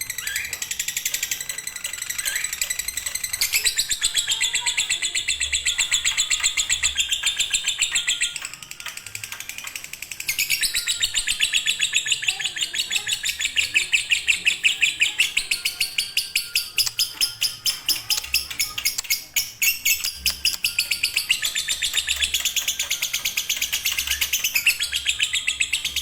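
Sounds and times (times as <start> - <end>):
lovebird chattering song: 0.0 - 26.0.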